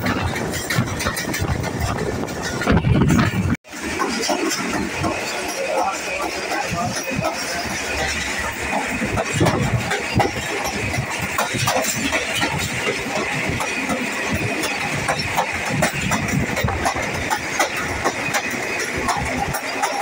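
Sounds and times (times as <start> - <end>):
running-gear clicks and knocks: 0.0 - 20.0
train wheels rumbling on rails: 0.0 - 20.0.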